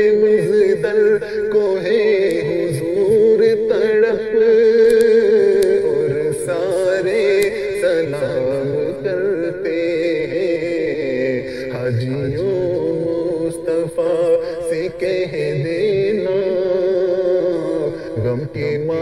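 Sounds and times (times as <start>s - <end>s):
person singing devotional melody: 0.0s - 19.0s.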